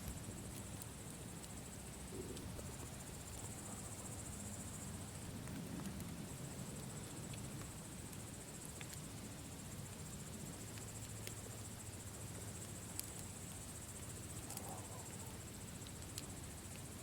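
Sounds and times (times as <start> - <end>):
campfire crackling: 0.0 - 17.0
crickets trilling: 0.0 - 17.0.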